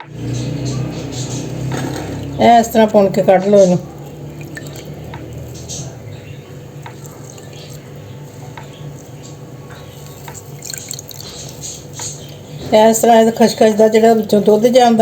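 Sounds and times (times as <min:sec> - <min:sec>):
steady low hum: 0:00.0 - 0:15.0
liquid dripping and trickling: 0:00.1 - 0:15.0.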